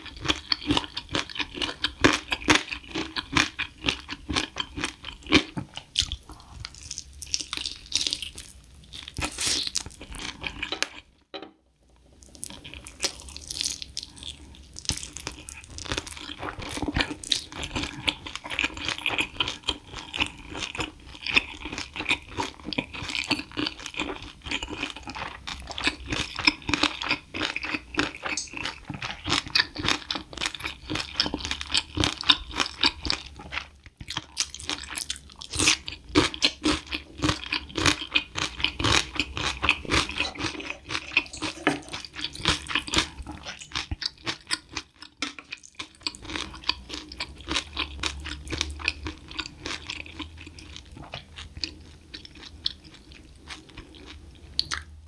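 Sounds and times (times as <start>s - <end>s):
chewing crunchy fried chicken: 0.0s - 11.2s, 12.2s - 55.0s.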